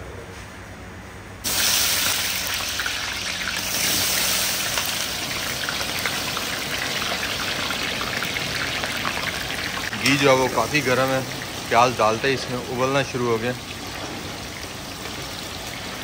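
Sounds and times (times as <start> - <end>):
onions sizzling in hot fat: 1.4 - 16.0.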